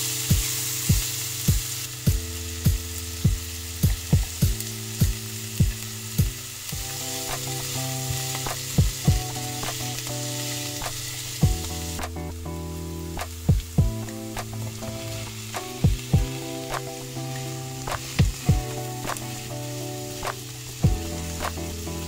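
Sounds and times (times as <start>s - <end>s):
background music: 0.0s - 22.0s
onions sizzling in oil: 0.0s - 22.0s.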